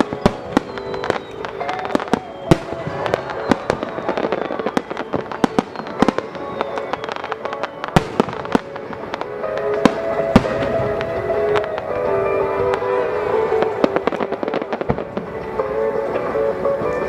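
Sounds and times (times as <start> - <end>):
fireworks bangs and crackling: 0.0 - 17.0
music: 0.0 - 17.0.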